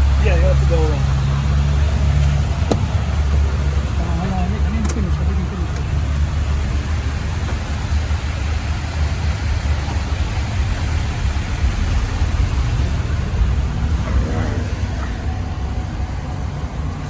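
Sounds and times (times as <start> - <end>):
low vehicle rumble: 0.0 - 17.0
road or wind noise hiss: 0.0 - 17.0.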